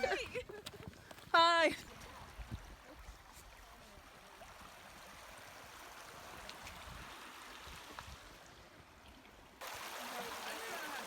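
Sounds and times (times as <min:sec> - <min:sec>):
river flowing: 0:00.9 - 0:11.0.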